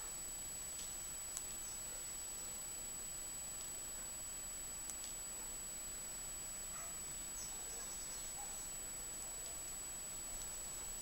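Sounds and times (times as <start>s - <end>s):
low hiss: 0.0s - 11.0s
thin high whine: 0.0s - 11.0s.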